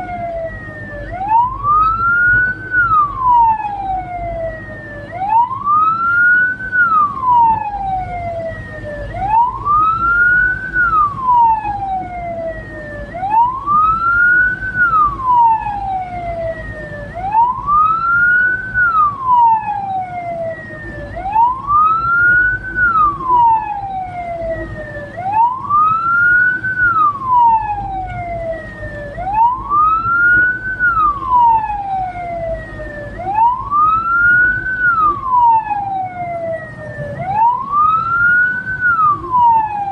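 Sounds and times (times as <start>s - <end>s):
siren wailing: 0.0s - 39.9s
vehicle rumble on road: 0.0s - 39.9s.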